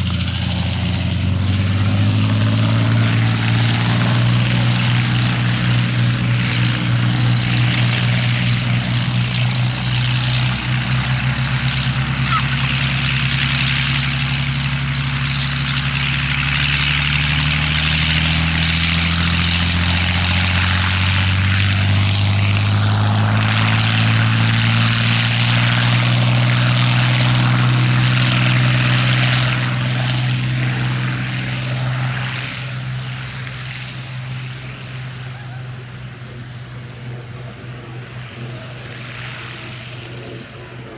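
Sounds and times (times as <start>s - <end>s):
propeller aircraft flying over: 0.0s - 40.9s.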